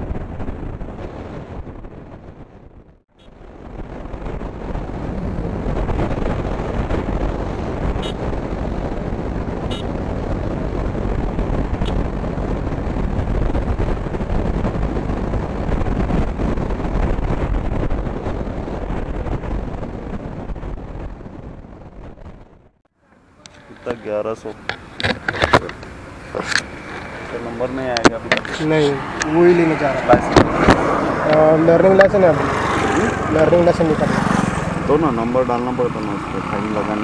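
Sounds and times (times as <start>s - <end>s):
wind rushing over microphone: 0.0s - 22.9s, 23.7s - 37.0s
road noise: 0.0s - 37.0s
motorcycle engine: 3.6s - 37.0s.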